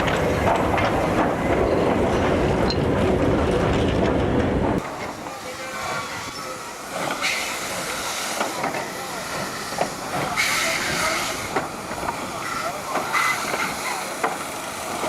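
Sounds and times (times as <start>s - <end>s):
steam train wheels rumbling: 0.0s - 15.0s.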